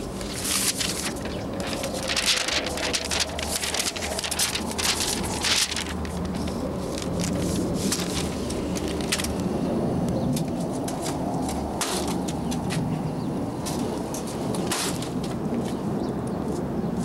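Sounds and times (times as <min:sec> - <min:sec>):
paper rustling and crackling: 0:00.0 - 0:09.5, 0:10.3 - 0:13.0, 0:13.6 - 0:16.6.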